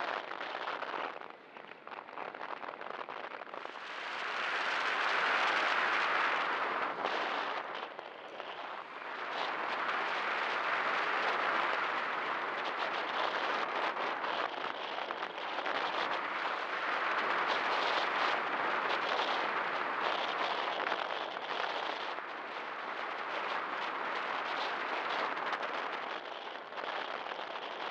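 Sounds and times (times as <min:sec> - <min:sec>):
wind rushing past camera: 0:00.0 - 0:27.9.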